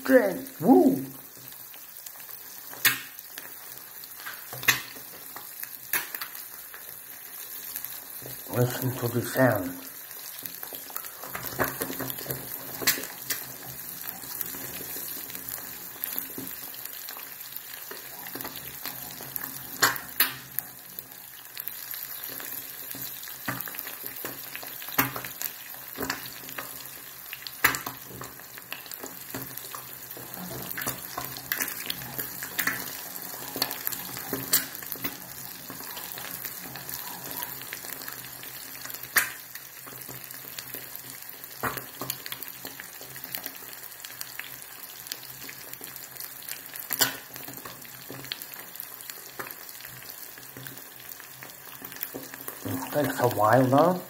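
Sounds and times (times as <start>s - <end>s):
eggs sizzling in a pan: 0.0s - 54.0s
frying pops and crackles: 0.0s - 54.0s.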